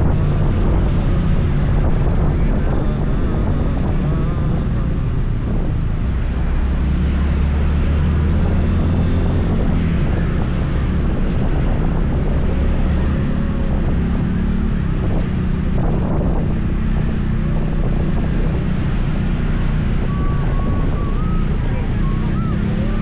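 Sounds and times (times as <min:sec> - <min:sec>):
road noise: 0:00.0 - 0:23.0
wind noise on microphone: 0:00.0 - 0:23.0.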